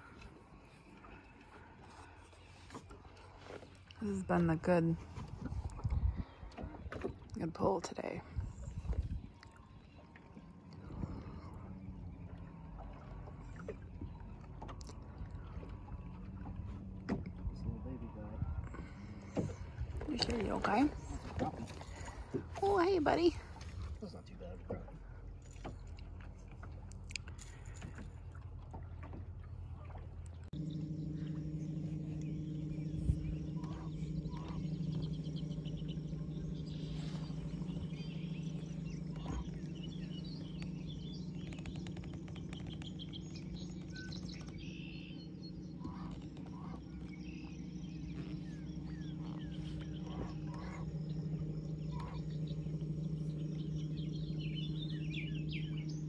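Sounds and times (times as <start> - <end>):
birds chirping: 0.0 - 28.4, 29.0 - 56.0
boat motor humming: 0.0 - 56.0.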